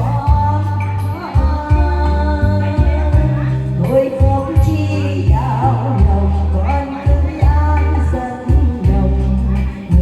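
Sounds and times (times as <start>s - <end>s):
music with held bass notes: 0.0s - 10.0s
person singing: 0.0s - 10.0s.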